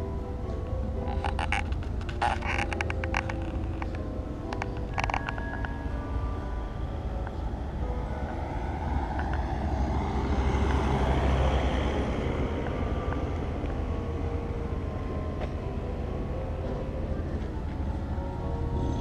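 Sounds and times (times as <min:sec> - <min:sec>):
vehicle engine rumble passing: 0:00.0 - 0:19.0.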